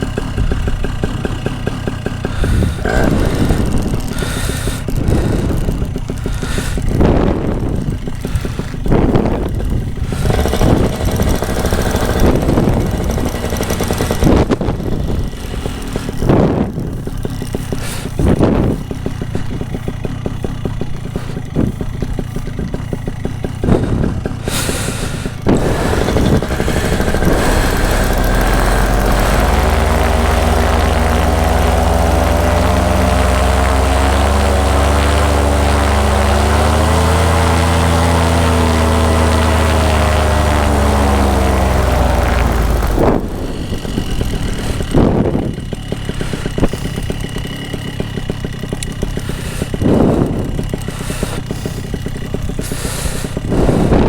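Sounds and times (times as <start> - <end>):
low rumbling bursts: 0.0 - 54.0
paramotor engine idling: 0.0 - 54.0.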